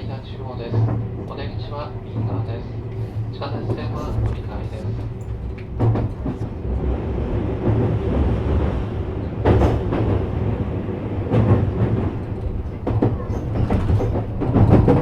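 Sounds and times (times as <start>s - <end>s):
train knocks: 0.0s - 15.0s
train wheels rumbling on rail: 0.0s - 15.0s.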